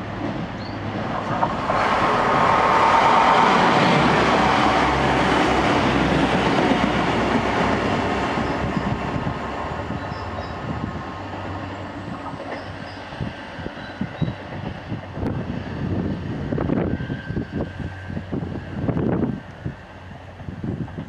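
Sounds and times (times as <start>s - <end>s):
diesel train passing at speed: 0.0s - 21.0s.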